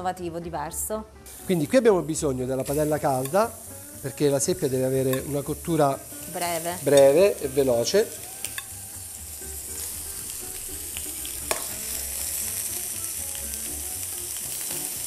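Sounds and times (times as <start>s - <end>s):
cuttlefish sizzling in a frying pan: 1.2s - 15.0s.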